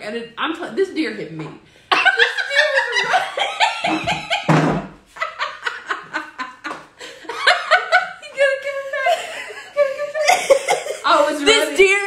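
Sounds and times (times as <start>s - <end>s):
women laughing: 1.9s - 11.8s.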